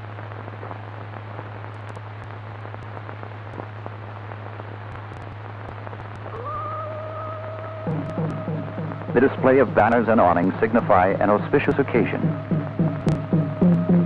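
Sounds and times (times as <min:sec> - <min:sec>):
faint crackles: 0:00.0 - 0:14.0
film soundtrack hiss and hum: 0:00.0 - 0:14.0.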